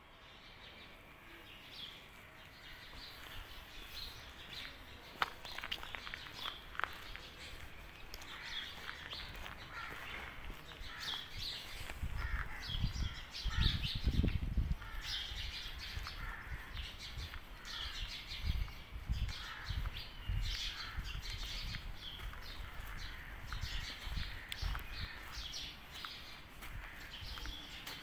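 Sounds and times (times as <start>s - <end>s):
birds chirping: 0.2s - 28.0s.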